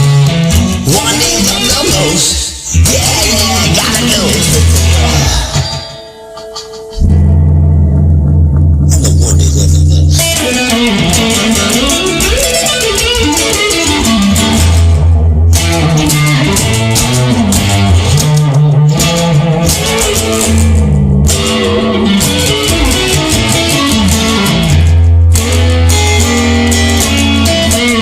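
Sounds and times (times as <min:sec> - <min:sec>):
bass guitar: 0:00.0 - 0:28.0
drums: 0:00.0 - 0:28.0
electric guitar lead line: 0:00.0 - 0:28.0.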